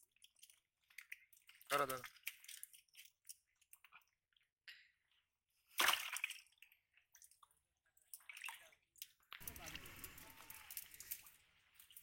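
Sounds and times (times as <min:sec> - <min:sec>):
wet splash: 0:00.0 - 0:04.1, 0:05.7 - 0:12.0.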